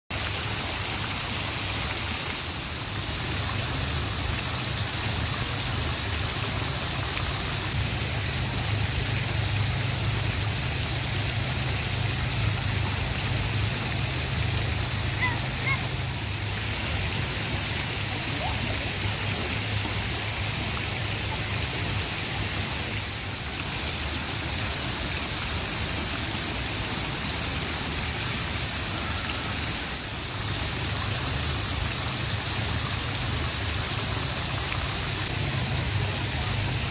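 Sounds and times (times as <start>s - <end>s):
fountain water splashing: 0.1s - 36.9s.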